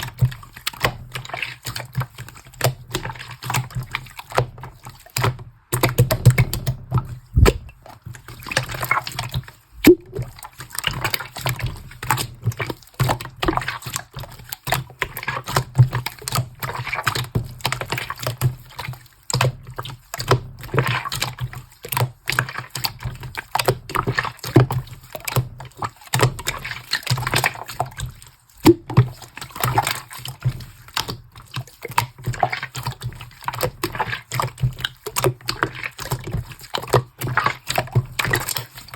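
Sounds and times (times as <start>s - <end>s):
slime squelching: 0.0s - 38.9s.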